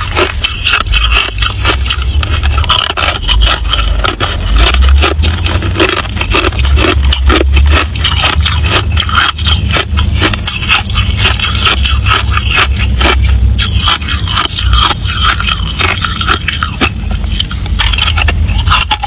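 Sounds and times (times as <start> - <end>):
ice crunching while chewed: 0.0 - 19.0
low rumble: 0.0 - 19.0.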